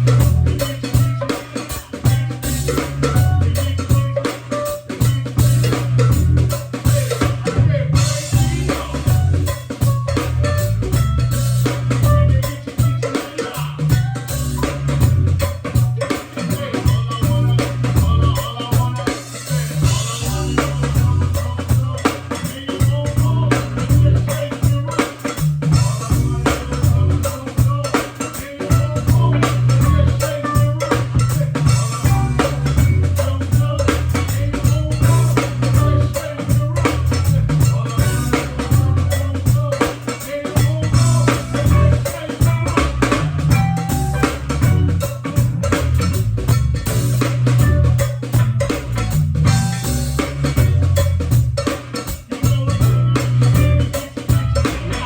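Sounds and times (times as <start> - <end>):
band music with drums: 0.0 - 55.0
heavy pulsing bass line: 0.0 - 55.0.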